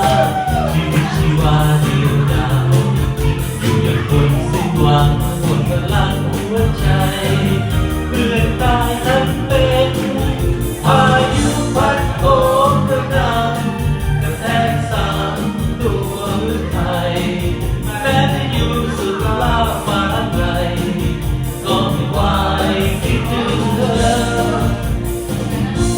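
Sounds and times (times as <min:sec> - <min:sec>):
band playing a steady beat: 0:00.0 - 0:25.9
song with sung vocals: 0:00.0 - 0:25.9.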